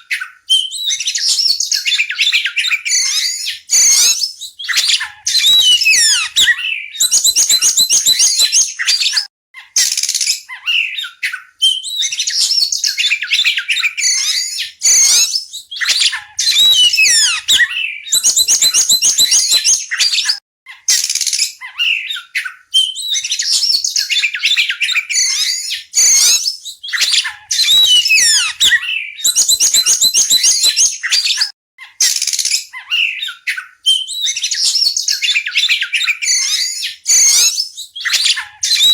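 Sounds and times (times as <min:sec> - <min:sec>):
bird singing: 0:00.0 - 0:09.1, 0:10.5 - 0:20.2, 0:21.6 - 0:31.4, 0:32.7 - 0:38.9.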